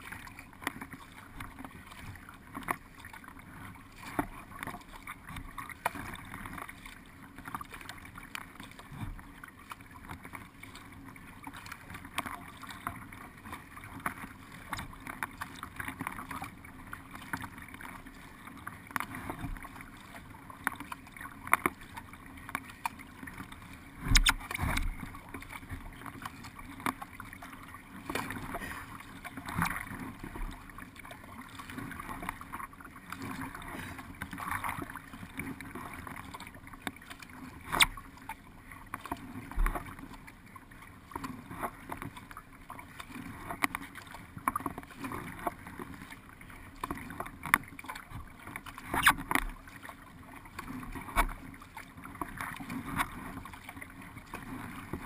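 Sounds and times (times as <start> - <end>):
water lapping against boat hull: 0.0 - 55.0.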